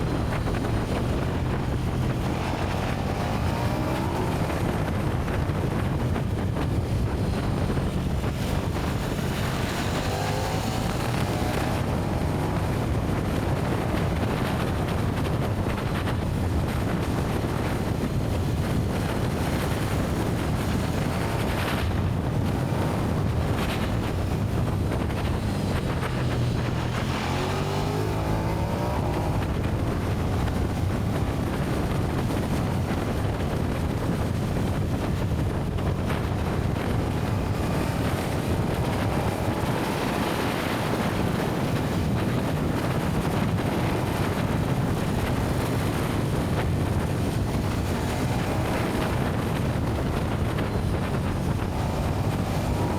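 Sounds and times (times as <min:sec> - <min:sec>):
motorcycle engine revving: 0:00.0 - 0:52.9
wind rushing over microphone: 0:00.0 - 0:52.9.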